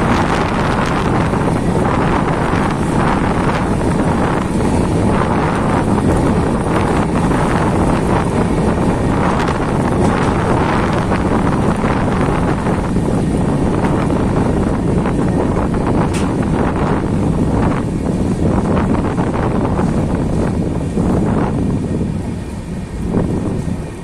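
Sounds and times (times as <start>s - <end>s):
train wheels on track: 0.0s - 24.0s
wind blowing across microphone: 0.0s - 24.0s.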